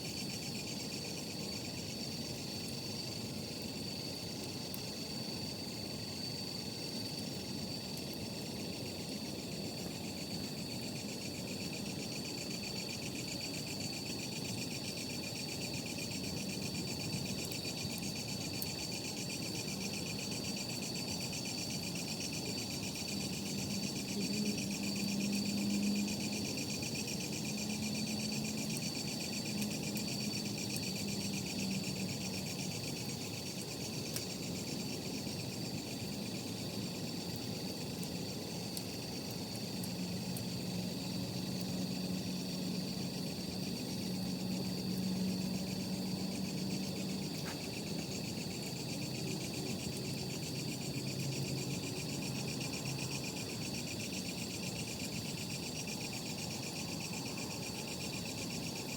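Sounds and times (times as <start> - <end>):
crickets trilling: 0.0 - 58.9.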